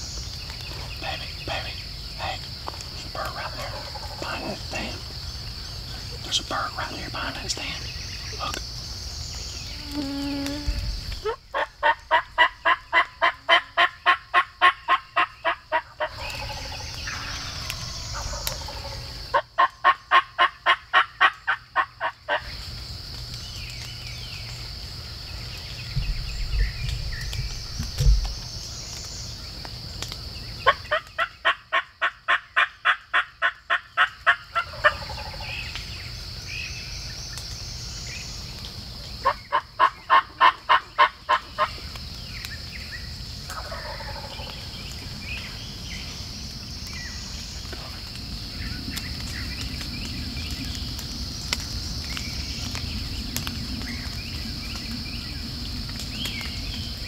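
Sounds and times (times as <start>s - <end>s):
high insect hum: 0.0s - 57.0s.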